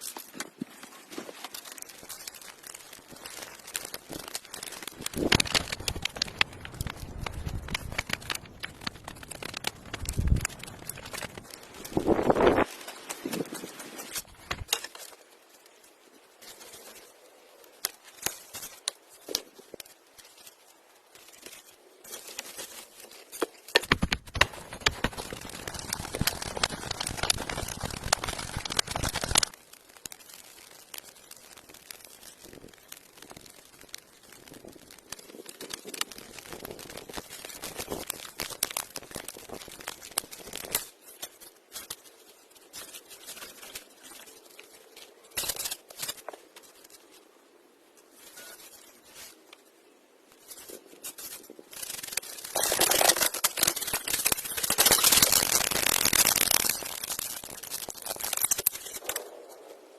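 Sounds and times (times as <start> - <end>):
branches rustling and crackling: 0.0 - 59.9.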